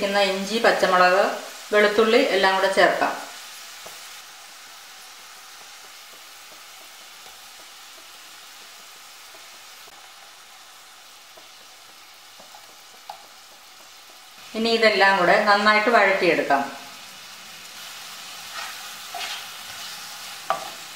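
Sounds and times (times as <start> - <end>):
onion sizzling in hot oil: 0.0 - 20.9.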